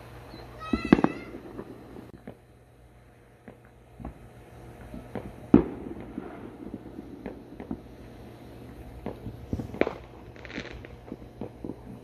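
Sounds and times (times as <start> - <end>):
firecrackers popping: 0.0 - 2.6, 3.4 - 12.0
firework bang: 0.6 - 2.5, 3.4 - 12.0.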